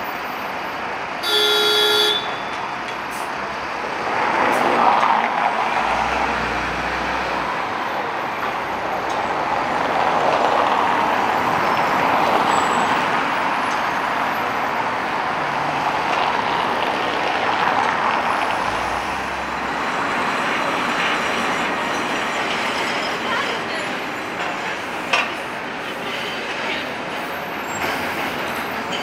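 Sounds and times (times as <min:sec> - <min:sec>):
trams passing: 0:00.0 - 0:01.4, 0:02.0 - 0:29.0
road traffic: 0:00.0 - 0:29.0.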